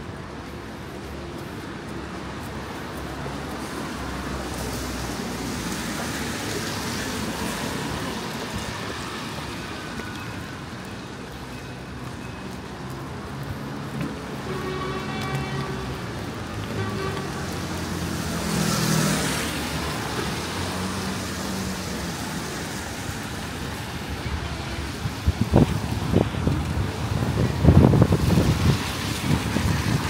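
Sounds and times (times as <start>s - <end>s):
tyres hissing on wet road: 0.0s - 30.0s.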